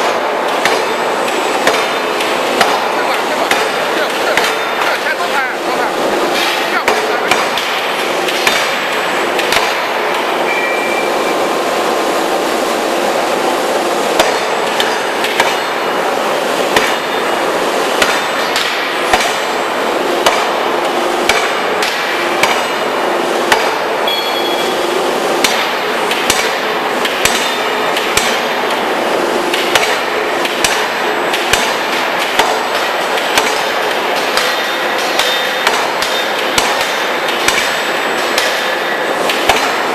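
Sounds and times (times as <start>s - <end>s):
running machinery noise: 0.0s - 39.9s.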